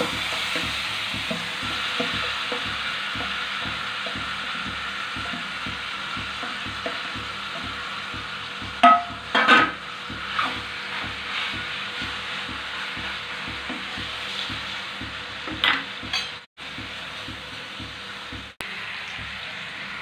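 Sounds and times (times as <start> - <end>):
chicken sizzling in oil: 0.0 - 20.0.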